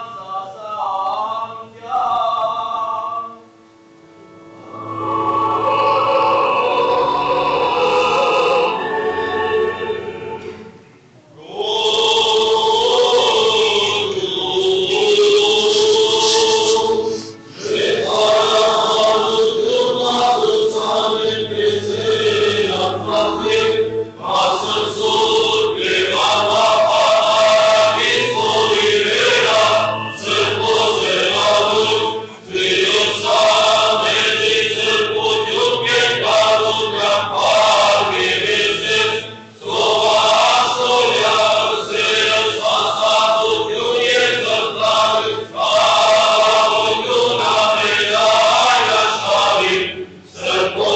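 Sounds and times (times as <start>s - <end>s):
male choir chanting: 0.0s - 3.4s, 4.7s - 10.7s, 11.3s - 50.9s.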